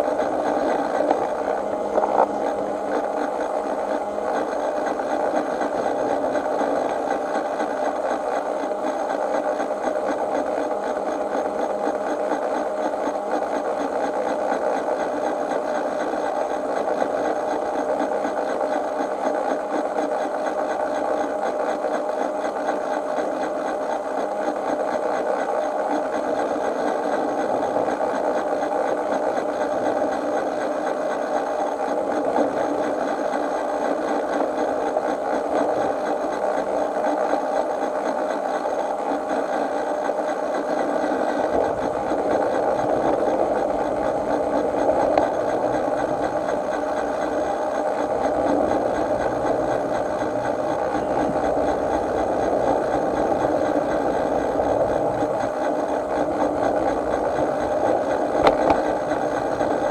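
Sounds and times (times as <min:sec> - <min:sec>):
model train whirring on track: 0:00.0 - 0:59.9.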